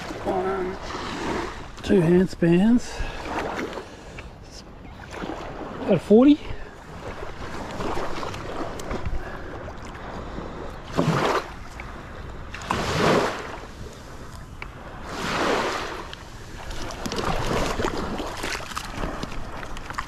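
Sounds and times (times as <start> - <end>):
shallow water swishing around legs: 0.0 - 20.0.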